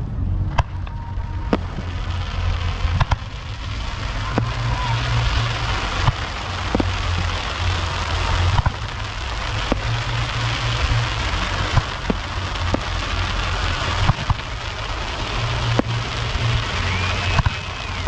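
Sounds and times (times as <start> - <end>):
distant fireworks popping: 0.5 - 18.0.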